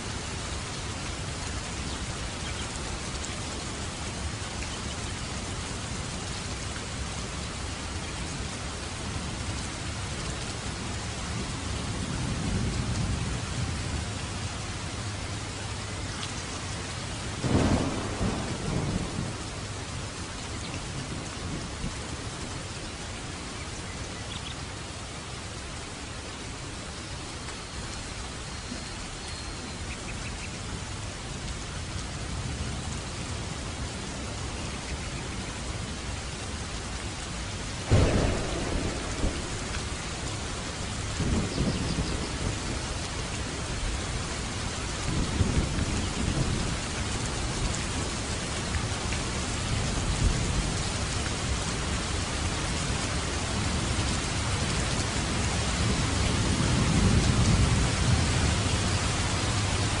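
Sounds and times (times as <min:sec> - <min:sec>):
steady rain: 0:00.0 - 1:00.0.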